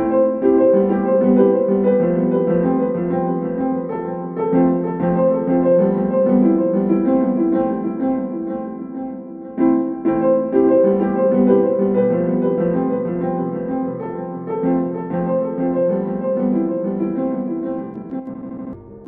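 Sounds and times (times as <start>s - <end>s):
keyboard background music: 0.0s - 19.0s.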